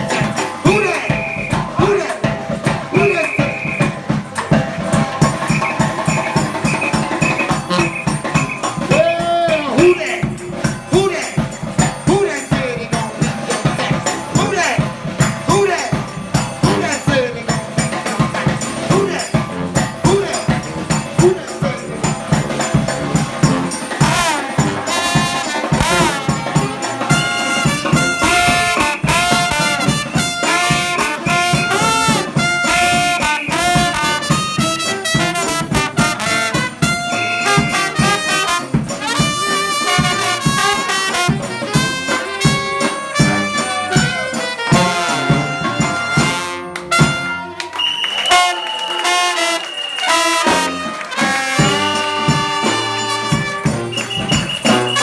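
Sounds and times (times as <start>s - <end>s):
steady drum beat: 0.0s - 55.0s
trumpets and trombones: 0.0s - 55.0s
tuba: 0.0s - 55.0s.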